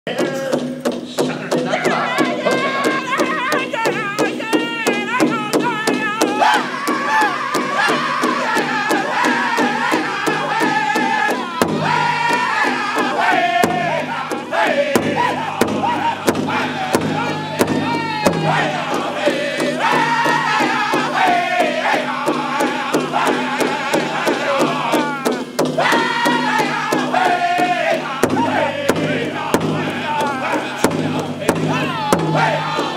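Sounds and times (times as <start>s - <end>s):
group of men singing: 0.1s - 32.9s
large drum beats: 0.1s - 32.9s.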